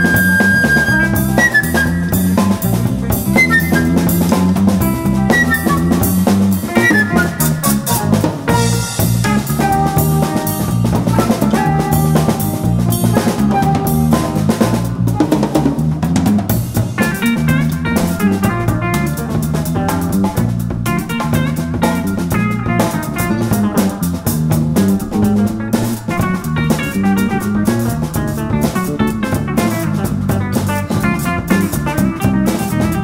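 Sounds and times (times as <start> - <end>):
drum kit groove with rimshots: 0.0 - 33.0
electric bass line: 0.0 - 33.0
electric guitar: 0.0 - 33.0.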